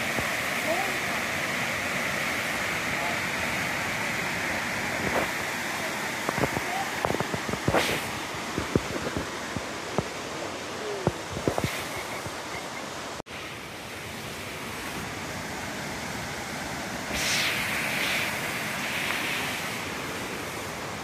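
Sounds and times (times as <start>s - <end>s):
waterfall and stream rushing: 0.0s - 21.0s.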